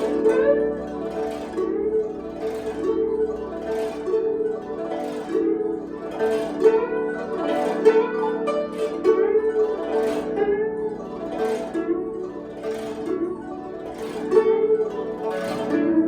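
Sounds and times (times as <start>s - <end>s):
plucked zither melody: 0.0s - 16.0s.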